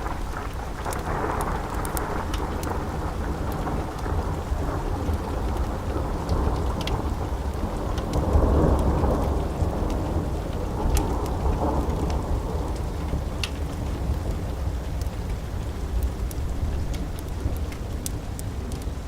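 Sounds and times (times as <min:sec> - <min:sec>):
rolling thunder rumble: 0:00.0 - 0:19.0
steady rain: 0:00.0 - 0:19.0.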